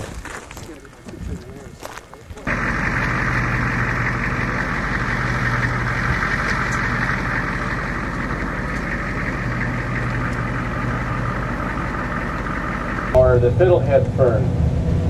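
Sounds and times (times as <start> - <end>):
vehicle engine running: 1.8 - 15.0
low hum: 2.4 - 15.0.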